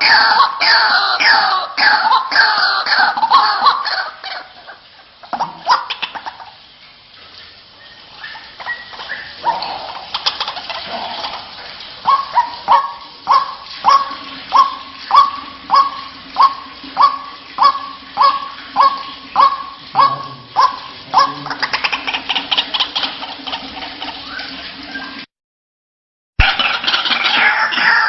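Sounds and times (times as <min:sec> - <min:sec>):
waterhen calling: 0:00.0 - 0:25.3, 0:26.4 - 0:28.0.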